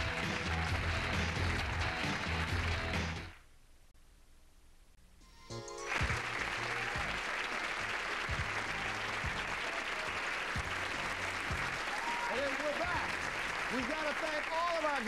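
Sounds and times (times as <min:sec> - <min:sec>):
music playing: 0:00.0 - 0:03.4, 0:05.2 - 0:13.9
studio audience applauding: 0:00.0 - 0:03.4, 0:05.7 - 0:15.0.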